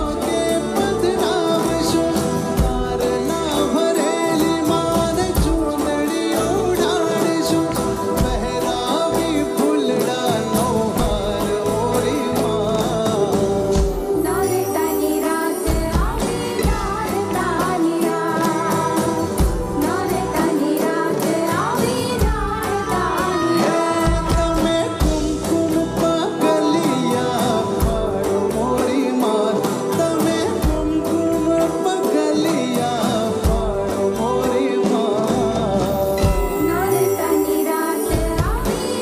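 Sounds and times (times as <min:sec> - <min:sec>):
percussion beat: 0:00.0 - 0:39.0
person singing: 0:00.0 - 0:39.0.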